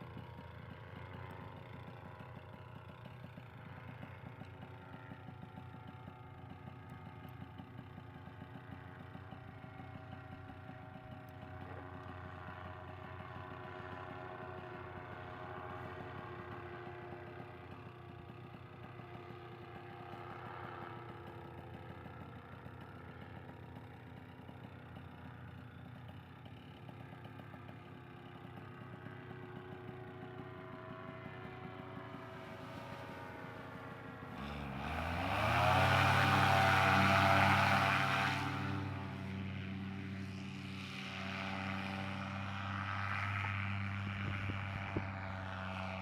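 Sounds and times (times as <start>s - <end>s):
paramotor engine running: 0.0s - 46.0s.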